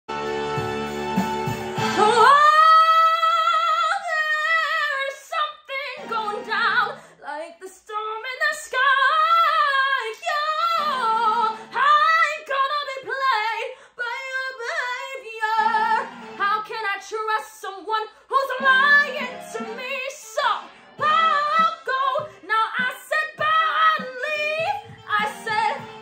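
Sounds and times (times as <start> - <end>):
woman singing pop song: 1.8 - 26.0.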